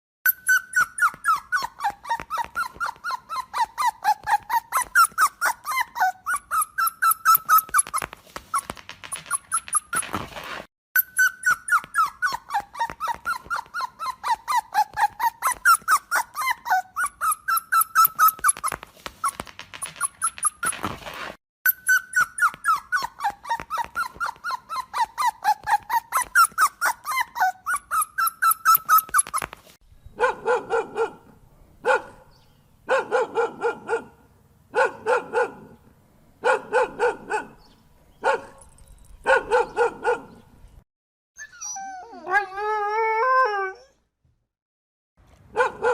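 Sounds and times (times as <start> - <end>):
dog yipping: 0.3 - 21.1, 21.7 - 34.2, 34.8 - 35.8, 36.4 - 40.5, 41.4 - 44.0, 45.5 - 45.9.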